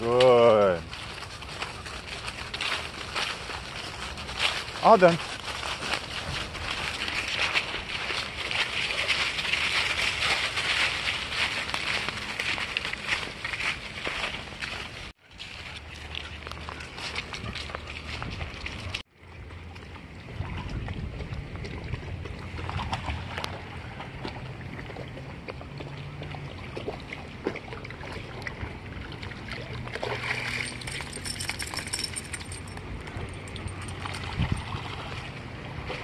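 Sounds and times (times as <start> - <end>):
water sloshing and gurgling: 0.8 - 36.0.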